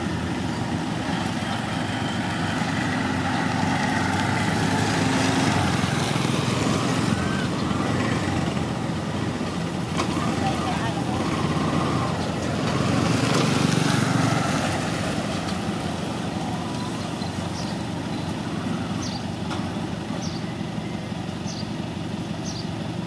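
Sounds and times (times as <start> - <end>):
low engine rumble: 0.0 - 23.0.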